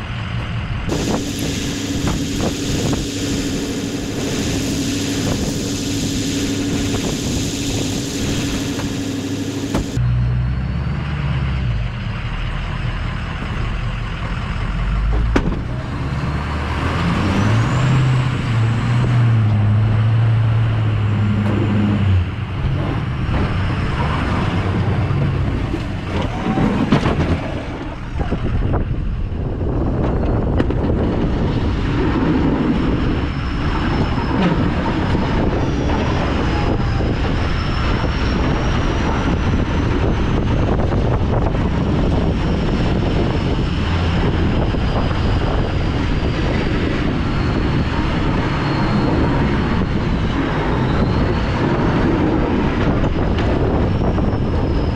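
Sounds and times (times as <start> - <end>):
diesel truck engine working: 0.0 - 54.9.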